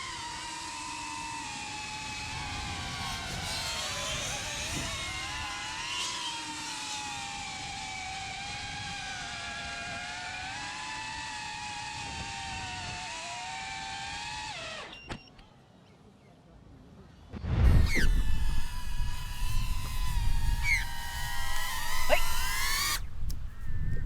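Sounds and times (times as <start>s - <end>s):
drone propellers whining: 0.0s - 15.3s, 17.5s - 24.0s.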